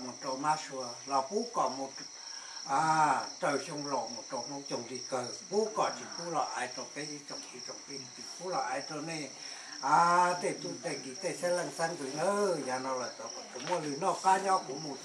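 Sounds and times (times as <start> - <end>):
crickets chirring: 0.0 - 15.0
people talking: 2.7 - 15.0.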